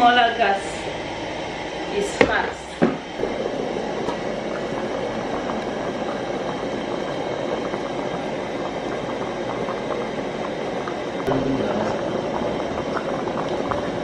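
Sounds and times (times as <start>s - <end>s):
water boiling hard in a pot: 0.0s - 14.0s.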